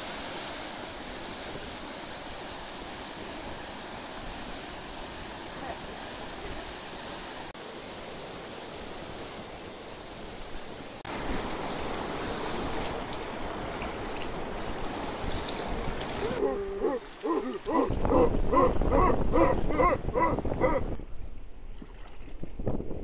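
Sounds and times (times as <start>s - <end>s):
whitewater rushing: 0.0s - 20.9s
choppy water around raft: 0.0s - 23.0s.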